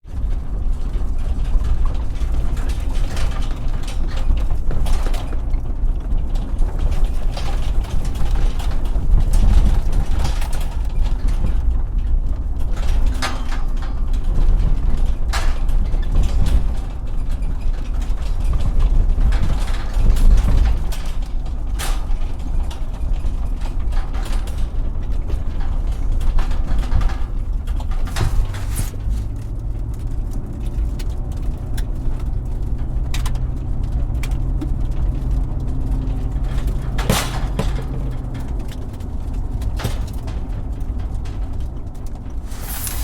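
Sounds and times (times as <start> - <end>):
rattles and clunks of truck body: 0.0 - 43.0
truck rumbling: 0.1 - 43.0.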